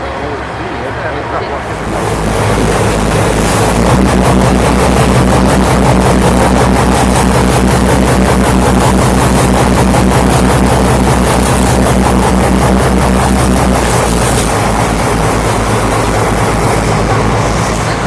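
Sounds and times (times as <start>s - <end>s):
motor boat engine running: 1.1s - 18.0s.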